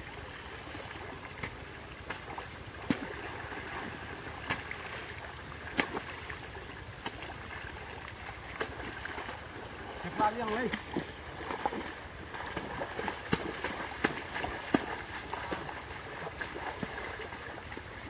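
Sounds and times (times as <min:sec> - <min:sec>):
river water flowing: 0:00.0 - 0:18.0
sharp water splashes: 0:00.1 - 0:18.0.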